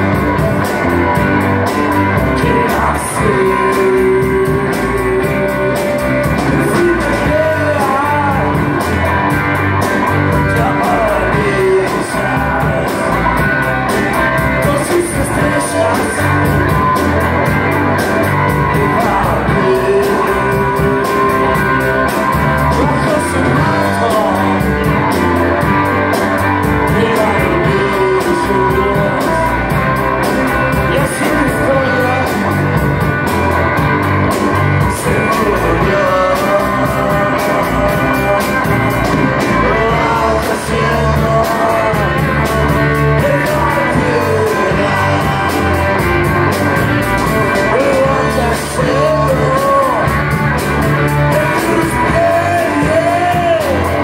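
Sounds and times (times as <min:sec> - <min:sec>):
person singing lead vocal: 0:00.0 - 0:54.0
rock band playing live: 0:00.0 - 0:54.0.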